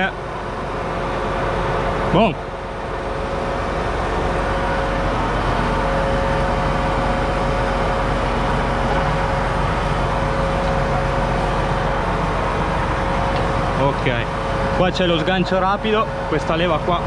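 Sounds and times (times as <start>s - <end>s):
constant whine: 0.0s - 17.0s
diesel tractor engine idling: 0.0s - 17.0s.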